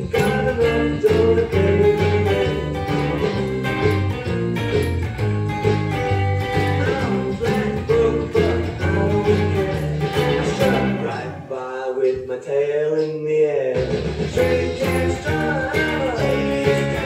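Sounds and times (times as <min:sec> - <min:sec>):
person singing: 0:00.0 - 0:04.3, 0:06.2 - 0:17.0
electric guitar with delay: 0:00.0 - 0:11.5, 0:14.4 - 0:17.0
rockabilly backing track: 0:00.0 - 0:12.3, 0:13.1 - 0:17.0.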